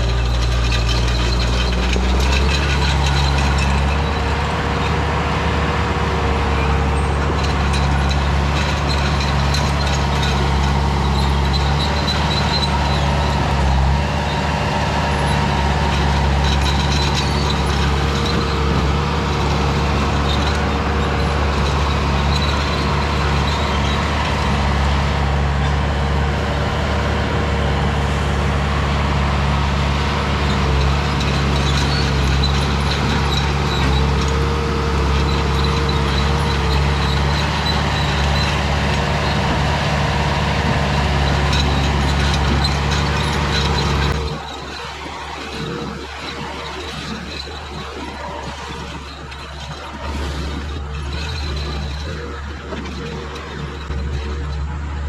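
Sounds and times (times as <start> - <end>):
skid steer engine droning: 0.0 - 55.0.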